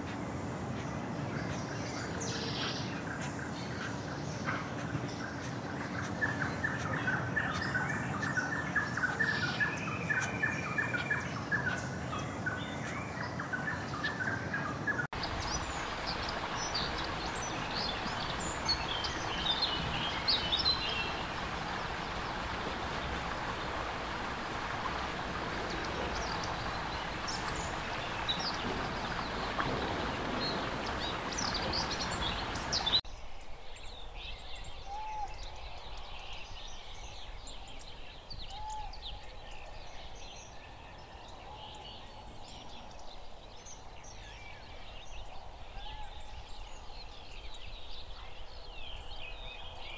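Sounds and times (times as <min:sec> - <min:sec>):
small birds chirping: 0:00.0 - 0:49.9
steady background hiss: 0:00.0 - 0:49.9.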